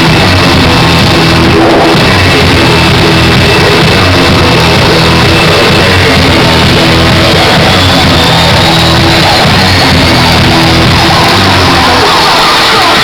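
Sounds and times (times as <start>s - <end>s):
loud distorted performance music: 0.0s - 13.0s.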